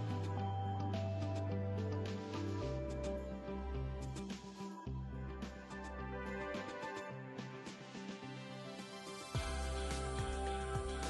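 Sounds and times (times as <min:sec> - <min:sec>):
background music with chords: 0:00.0 - 0:11.0.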